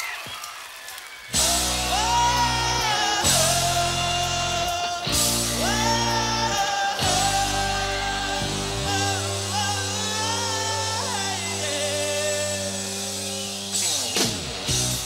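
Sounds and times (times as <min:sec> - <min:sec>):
pop-rock band playing: 0:01.3 - 0:15.0
person singing: 0:01.4 - 0:13.5
keyboard chords: 0:01.4 - 0:15.0.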